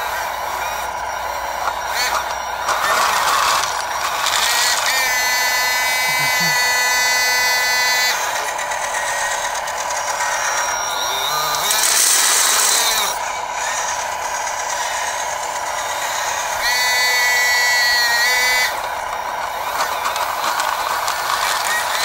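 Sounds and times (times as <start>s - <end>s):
excavator hydraulic pump whining: 0.0s - 22.0s
higher multi-tone whine: 0.0s - 22.0s.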